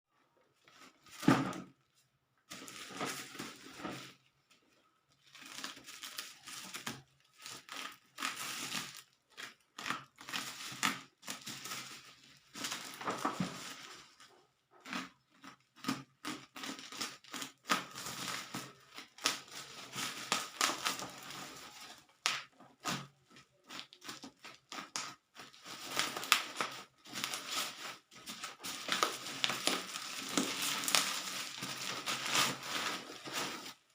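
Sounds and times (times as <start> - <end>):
plastic and cardboard crinkling: 0.4 - 33.9.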